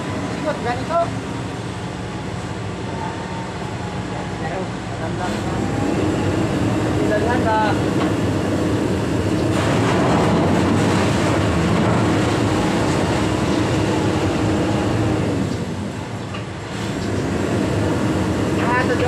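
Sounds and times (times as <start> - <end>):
heavy machinery running: 0.0 - 19.0.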